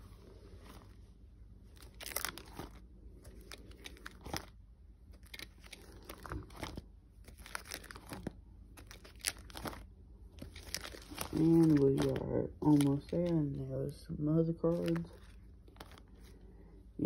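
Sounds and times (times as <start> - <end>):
plastic sleeves crinkling: 0.0 - 16.8.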